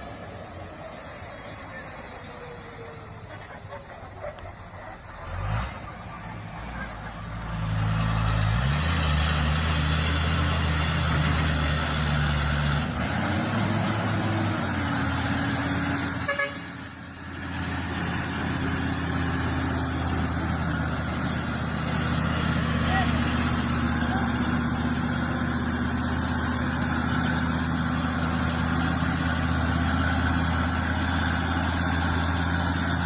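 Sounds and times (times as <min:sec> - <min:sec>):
truck diesel engine labouring: 0:00.0 - 0:33.0.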